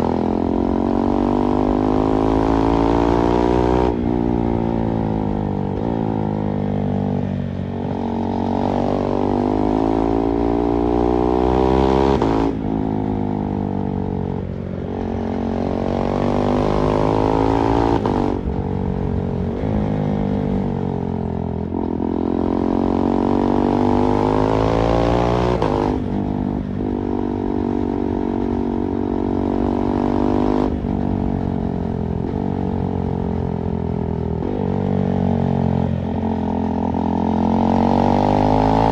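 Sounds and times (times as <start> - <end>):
motorcycle engine revving: 0.0 - 33.5, 34.2 - 38.9.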